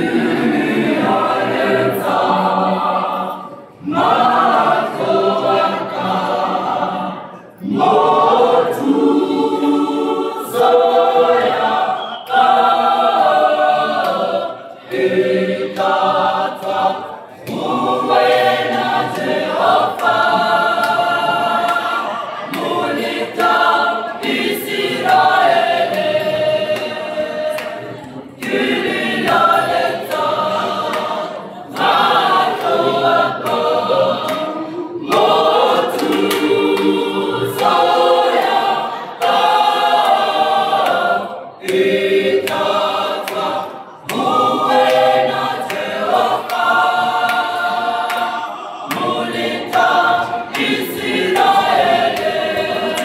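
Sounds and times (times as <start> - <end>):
gospel choir singing a cappella: 0.0 - 53.0.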